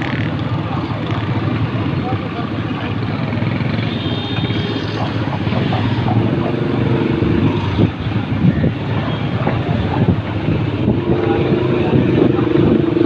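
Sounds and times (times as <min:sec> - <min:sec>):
low rumble of street noise: 0:00.0 - 0:13.0.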